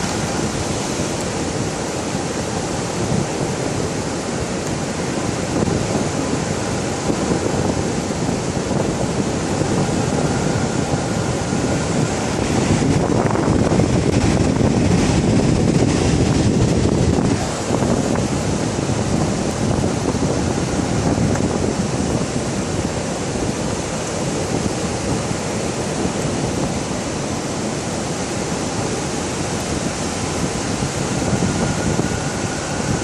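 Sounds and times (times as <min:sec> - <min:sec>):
ocean surf on beach: 0:00.0 - 0:33.0
wind on microphone: 0:00.0 - 0:33.0.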